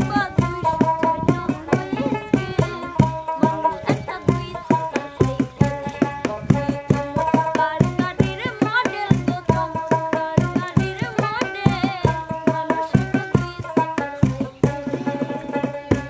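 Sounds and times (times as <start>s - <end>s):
hand drum rhythm: 0.0s - 16.0s
plucked strings: 0.0s - 16.0s.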